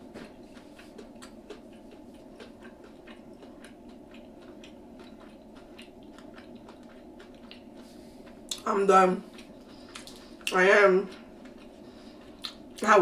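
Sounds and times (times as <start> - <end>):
chewing with mouth clicks: 0.0 - 12.9
low background hum: 0.0 - 13.0.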